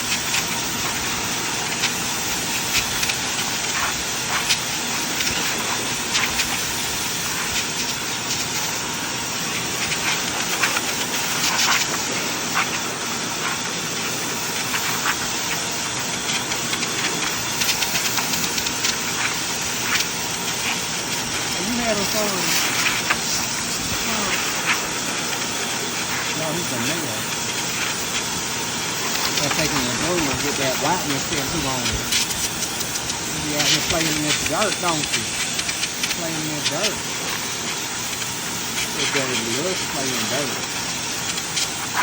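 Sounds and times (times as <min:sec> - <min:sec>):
blow dryer running: 0:00.0 - 0:42.0.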